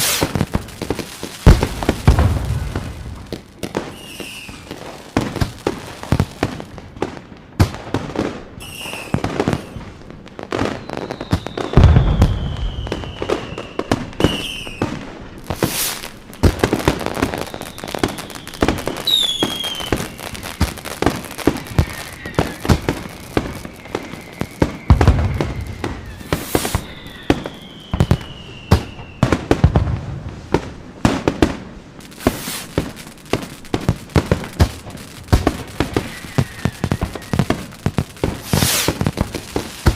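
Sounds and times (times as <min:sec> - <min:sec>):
falling fireworks whistles: 0:00.0 - 0:07.3, 0:07.9 - 0:39.9
deep fireworks booms: 0:00.0 - 0:39.9
fireworks cracks and pops: 0:00.0 - 0:39.9.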